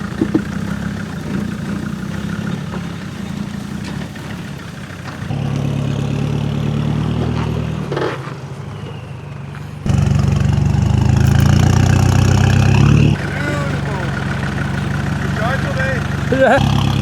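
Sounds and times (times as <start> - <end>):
off-road vehicle engine under load: 0.0 - 17.0.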